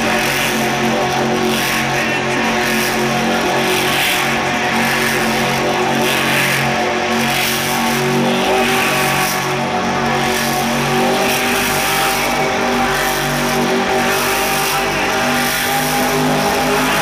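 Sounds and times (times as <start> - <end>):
truck engine at high revs: 0.0 - 17.0.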